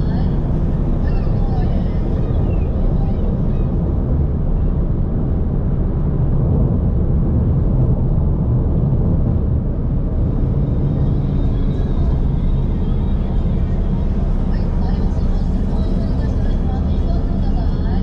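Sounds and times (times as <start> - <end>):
car road rumble: 0.0 - 18.0.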